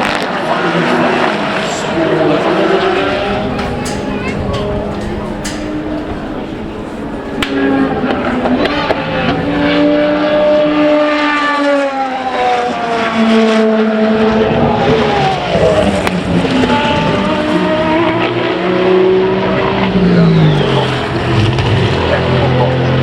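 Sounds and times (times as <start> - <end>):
racing car engines passing: 0.0 - 23.0.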